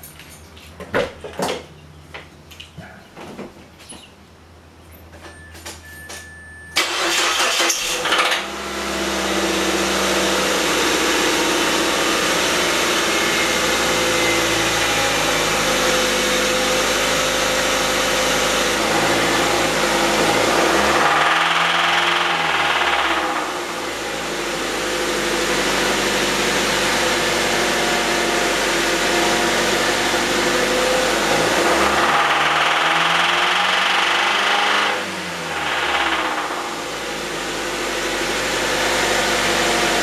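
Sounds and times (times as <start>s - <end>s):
car engine cranking and idling: 5.3s - 40.0s.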